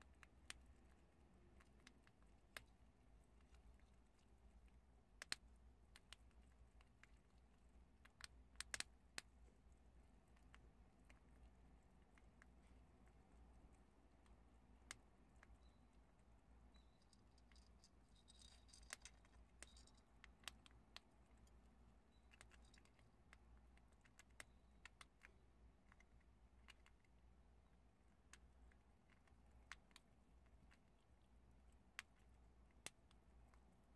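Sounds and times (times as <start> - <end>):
animals crunching chickpeas: 0.0 - 33.9.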